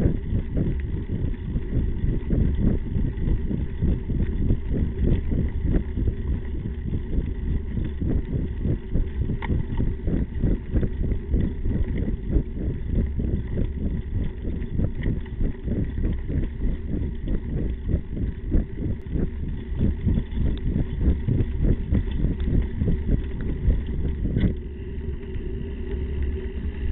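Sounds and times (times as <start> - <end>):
wind rumble on microphone: 0.0 - 26.9.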